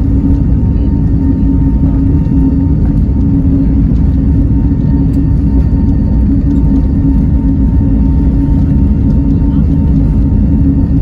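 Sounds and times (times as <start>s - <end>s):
airliner engines and wheel rumble: 0.0s - 11.0s.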